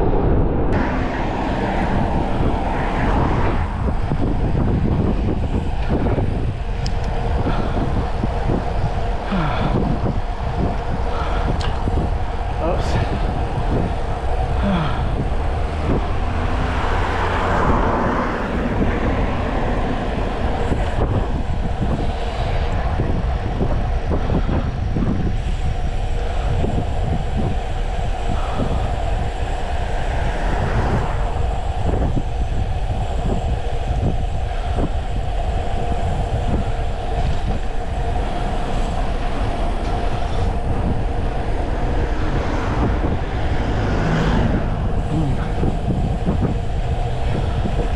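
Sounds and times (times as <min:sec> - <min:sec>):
wind rushing over microphone: 0:00.0 - 0:47.9
bike road noise rattling: 0:00.7 - 0:47.9.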